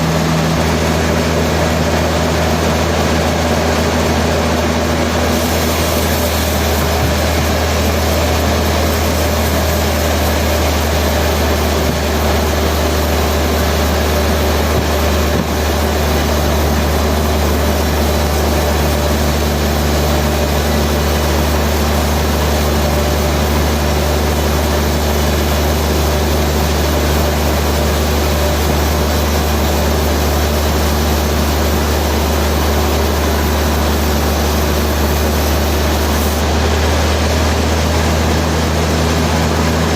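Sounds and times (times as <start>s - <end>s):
heavy machinery droning: 0.0s - 39.9s.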